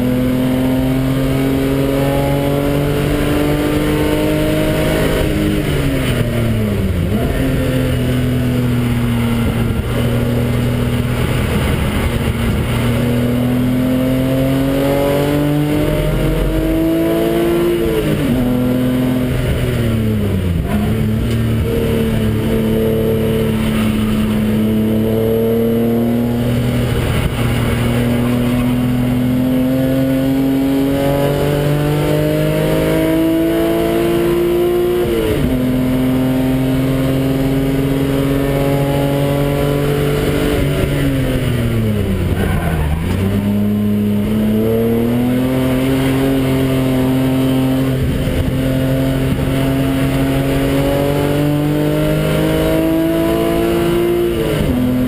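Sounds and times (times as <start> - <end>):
car engine revving at full throttle: 0.0 - 55.0.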